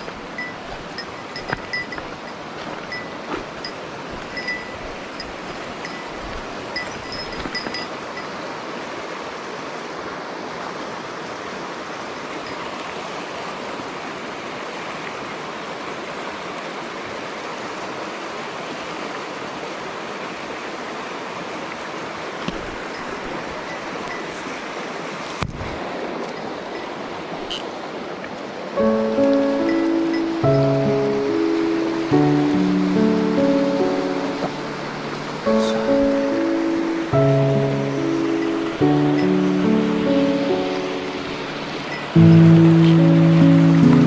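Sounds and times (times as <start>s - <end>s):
stream running over rocks: 0.0s - 44.0s.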